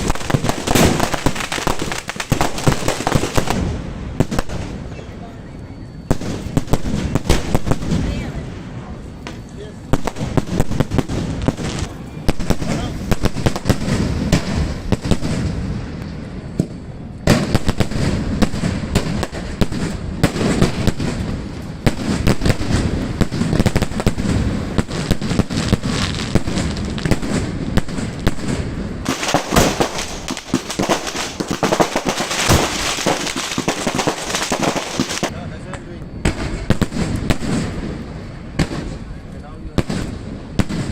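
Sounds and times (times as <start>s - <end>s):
fireworks bangs and crackling pops: 0.0s - 5.2s, 6.1s - 40.9s.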